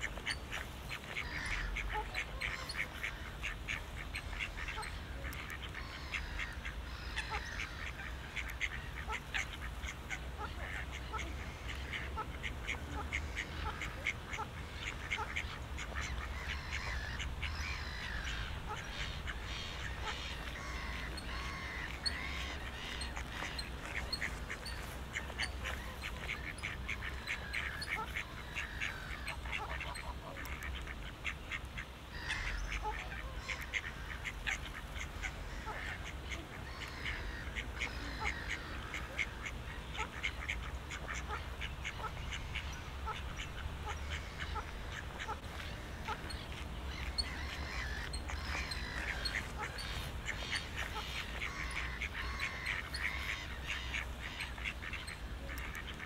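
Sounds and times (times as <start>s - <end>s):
birds calling: 0.0s - 56.0s
ducks quacking: 0.0s - 56.0s.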